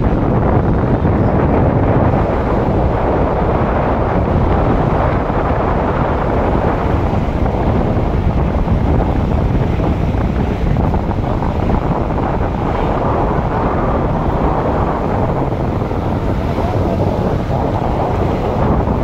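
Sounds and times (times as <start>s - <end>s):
car road and engine noise: 0.0s - 19.0s
wind noise on microphone: 0.0s - 19.0s.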